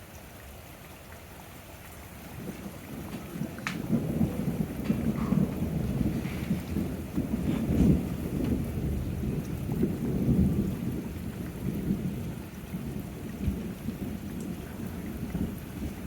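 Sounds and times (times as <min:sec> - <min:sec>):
steady rain: 0:00.0 - 0:16.0
thunder rumbling: 0:02.2 - 0:16.0.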